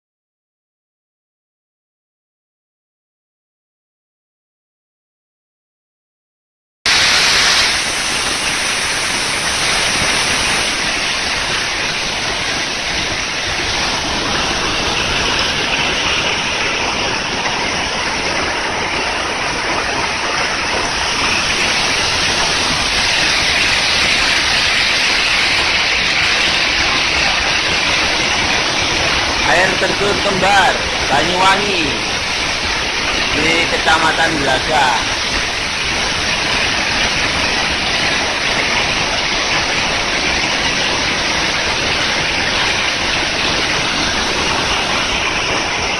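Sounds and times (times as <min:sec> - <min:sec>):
waterfall roaring: 0:06.9 - 0:45.9.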